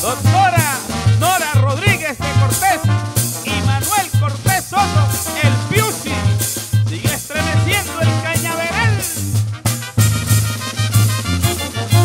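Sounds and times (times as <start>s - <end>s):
bouncing bass line: 0.0s - 12.0s
brass melody: 0.0s - 12.0s.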